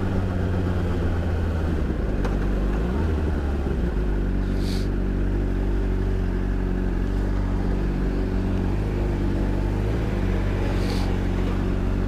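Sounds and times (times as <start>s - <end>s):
motorcycle engine steady revs: 0.0s - 12.0s
road and wind noise: 0.0s - 12.0s.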